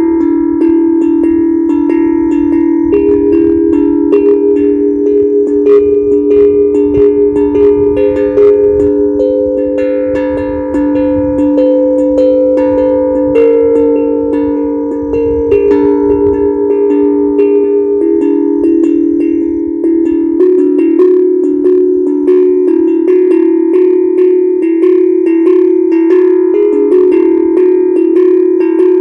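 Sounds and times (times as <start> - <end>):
steel tongue drum notes ringing: 0.0 - 29.0.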